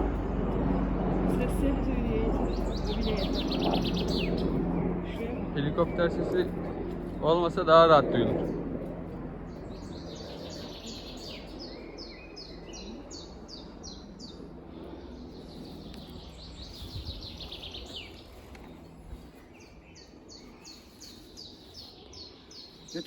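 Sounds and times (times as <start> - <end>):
low drone: 0.0 - 23.0
songbird singing: 1.3 - 7.0, 9.4 - 23.0.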